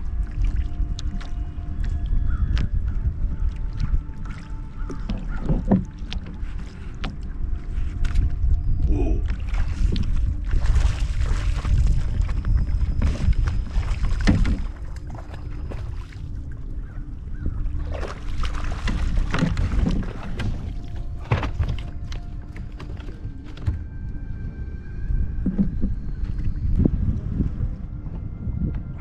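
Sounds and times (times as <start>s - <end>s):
water splashing: 0.0s - 23.9s
wind rumble on microphone: 0.0s - 29.0s.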